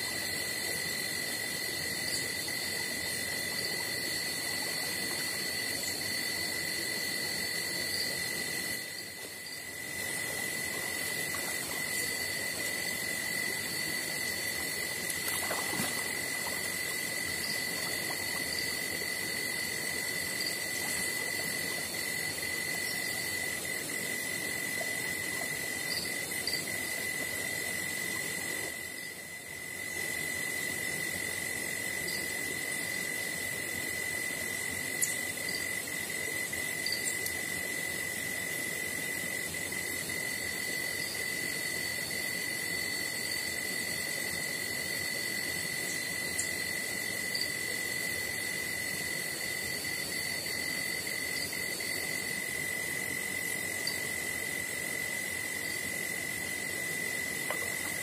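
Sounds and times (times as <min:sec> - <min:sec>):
higher insect trill: 0:00.0 - 0:58.0
insects trilling: 0:00.0 - 0:58.0
short insect chirps: 0:00.0 - 0:58.0.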